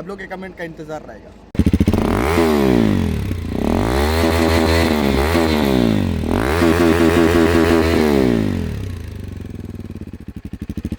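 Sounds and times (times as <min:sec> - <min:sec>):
motorcycle engine revving: 0:01.6 - 0:10.9.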